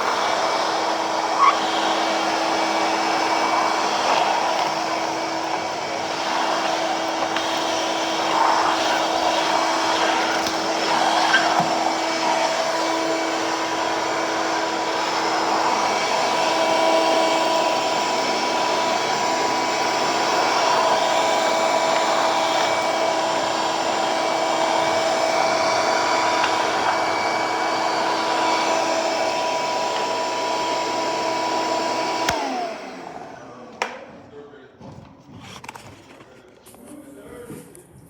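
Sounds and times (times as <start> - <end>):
electric blower appliance whining: 0.0 - 34.2.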